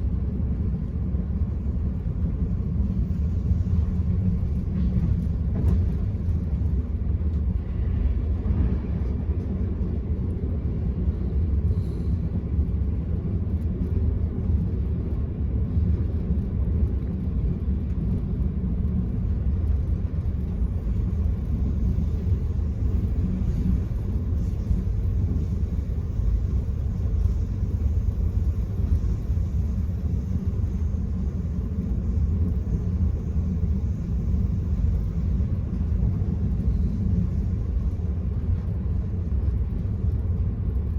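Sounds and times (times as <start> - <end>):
train rumble from inside coach: 0.0 - 40.9.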